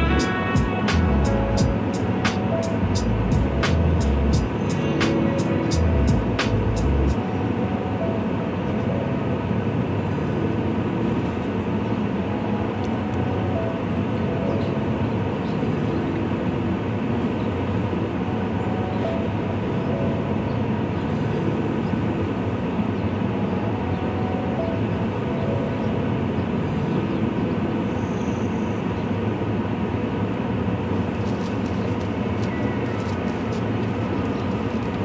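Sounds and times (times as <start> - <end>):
freight train rumbling on tracks: 0.0 - 35.0.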